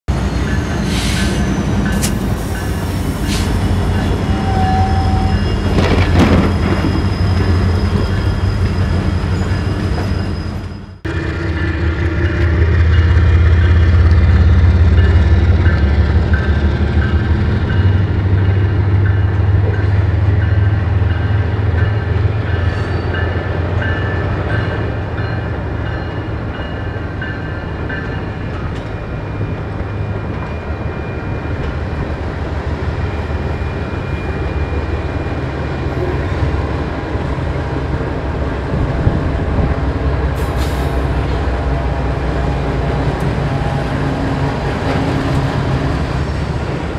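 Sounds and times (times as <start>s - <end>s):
diesel locomotive engine rumbling: 0.1s - 46.9s.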